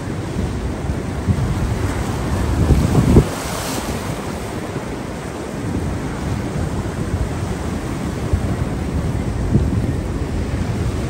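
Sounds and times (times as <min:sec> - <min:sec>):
ocean surf: 0:00.0 - 0:11.0
wind rumbling on microphone: 0:00.0 - 0:11.0.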